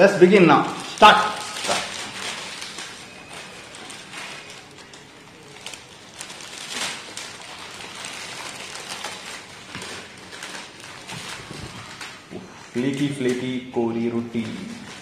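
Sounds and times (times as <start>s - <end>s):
rice wafers crackling: 0.2s - 12.2s.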